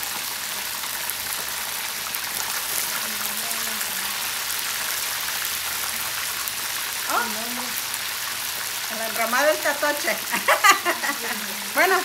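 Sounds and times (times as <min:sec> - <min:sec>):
fish sizzling in hot fat: 0:00.0 - 0:12.0.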